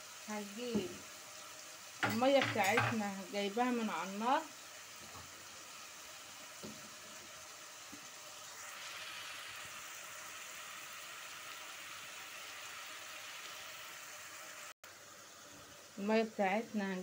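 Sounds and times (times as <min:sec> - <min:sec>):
onion sizzling in oil: 0:00.0 - 0:17.0.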